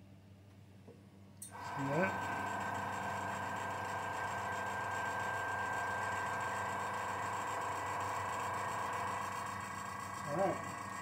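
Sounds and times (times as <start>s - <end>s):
steady machine hum: 1.4s - 11.0s.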